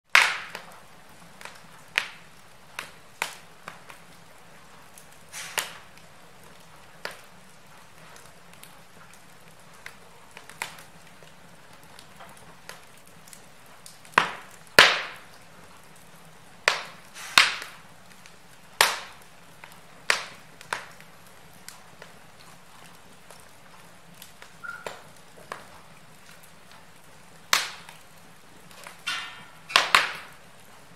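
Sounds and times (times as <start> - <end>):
faint steady hiss: 0.1 - 30.9
wood fire crackling: 0.1 - 30.9.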